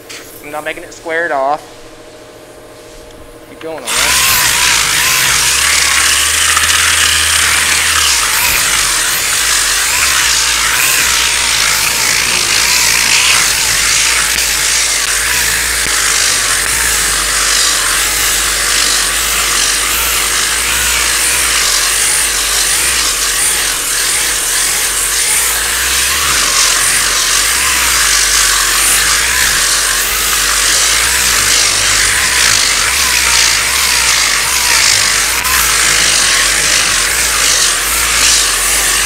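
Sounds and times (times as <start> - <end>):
sandpaper scratching filler: 3.9 - 39.0.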